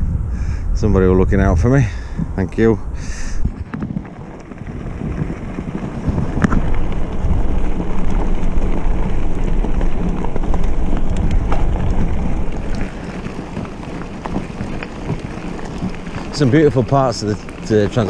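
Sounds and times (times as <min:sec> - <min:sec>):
wind buffeting microphone: 0:00.0 - 0:18.0
bike clicks: 0:03.0 - 0:18.0.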